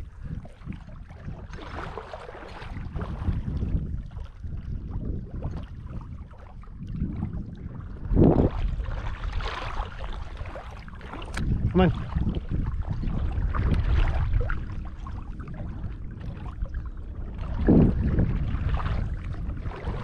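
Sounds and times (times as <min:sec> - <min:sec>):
water sloshing and splashing: 0:00.0 - 0:20.0
wind on microphone: 0:00.0 - 0:20.0.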